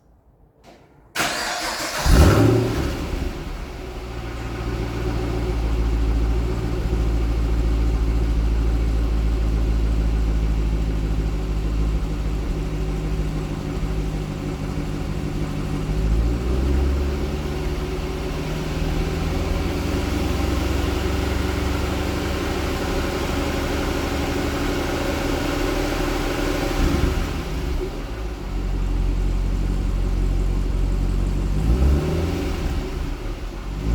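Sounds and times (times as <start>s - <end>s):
car engine starting and idling: 0.6s - 33.9s.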